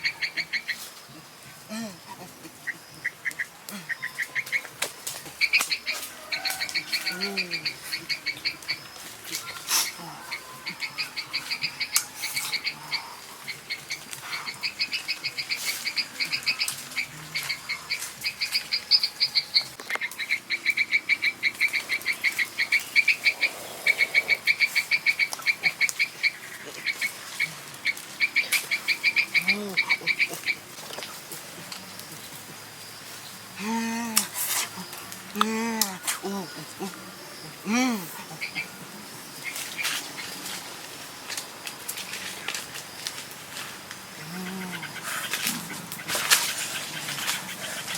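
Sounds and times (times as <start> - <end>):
animal calls in pulsed trills: 0.0 - 32.7, 33.6 - 40.6, 44.1 - 47.9.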